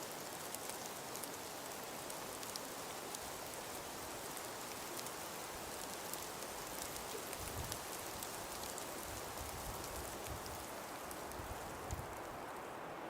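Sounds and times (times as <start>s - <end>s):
snowflakes ticking: 0.0s - 12.6s.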